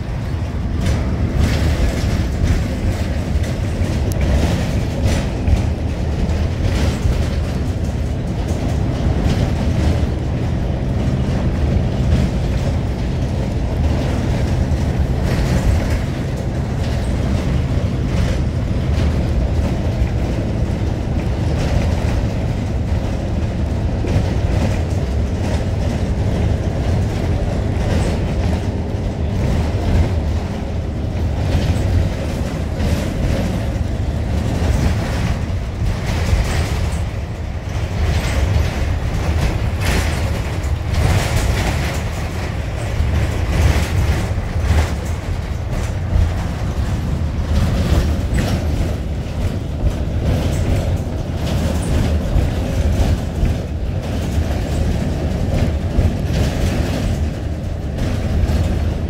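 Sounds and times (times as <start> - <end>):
bus engine and road rumble: 0.0 - 59.0
rattling clicks and knocks: 0.0 - 59.0.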